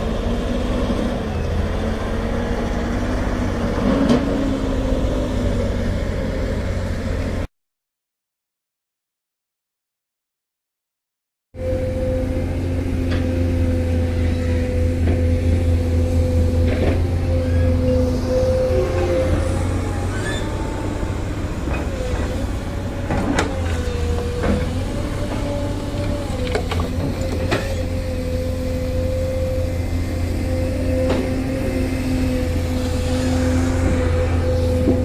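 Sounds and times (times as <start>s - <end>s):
heavy machinery diesel engine running: 0.0s - 7.5s, 11.6s - 35.0s.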